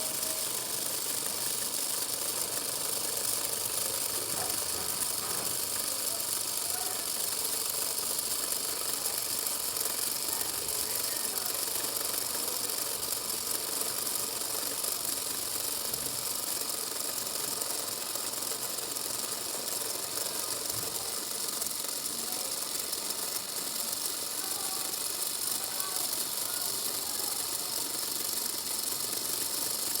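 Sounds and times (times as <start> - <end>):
toy motor and gearbox whirring: 0.0 - 30.0.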